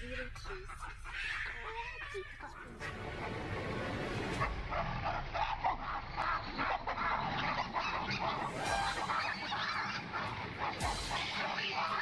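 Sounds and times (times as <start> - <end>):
baboons calling: 0.0 - 12.0.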